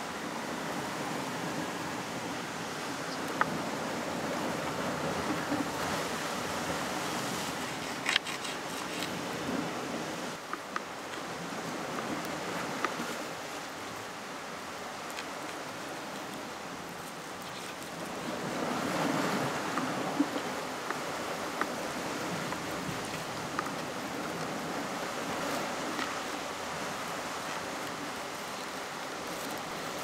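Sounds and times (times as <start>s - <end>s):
surf washing against rocky shore: 0.0s - 30.0s.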